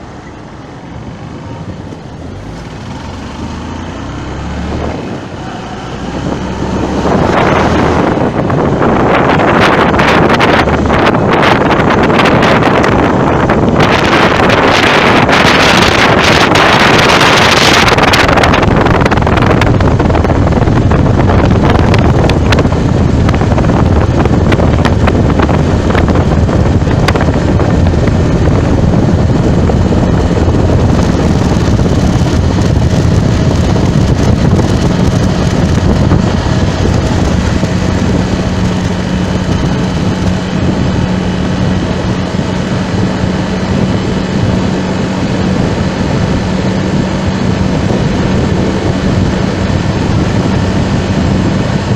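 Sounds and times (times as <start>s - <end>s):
engine and road noise: 0.0s - 51.9s
wind over microphone: 0.0s - 51.9s.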